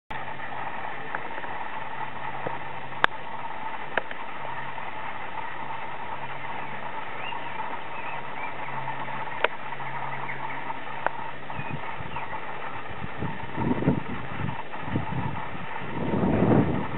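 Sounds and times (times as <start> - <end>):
lawnmower engine idling: 0.1 - 16.9.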